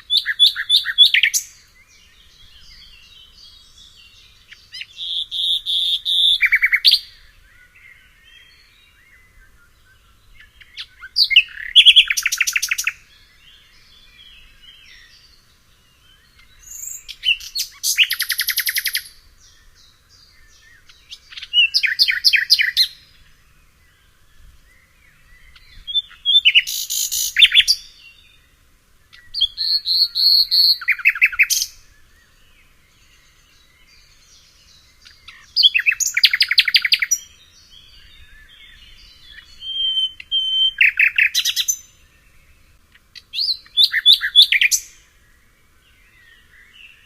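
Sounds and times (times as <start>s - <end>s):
songbird trilling: 0.0s - 45.4s
faint bird chirps: 0.0s - 47.0s.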